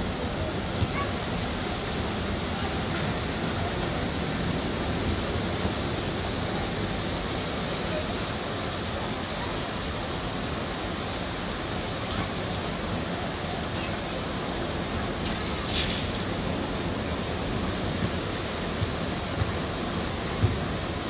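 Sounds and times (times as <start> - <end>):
rushing outdoor ambience: 0.0 - 21.0.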